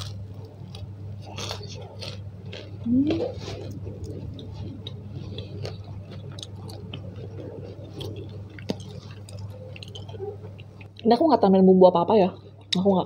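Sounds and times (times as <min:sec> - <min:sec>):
mouth chewing crispy fritter: 0:00.0 - 0:10.9
low electrical hum: 0:00.0 - 0:13.0.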